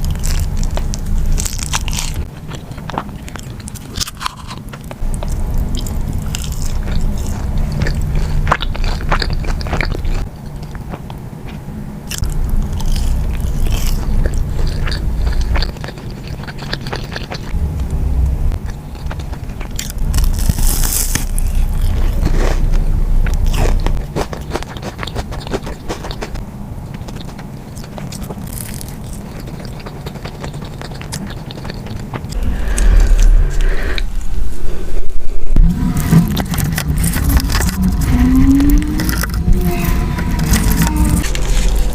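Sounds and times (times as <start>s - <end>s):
chewing crunchy food: 0.0s - 33.6s, 35.6s - 41.9s.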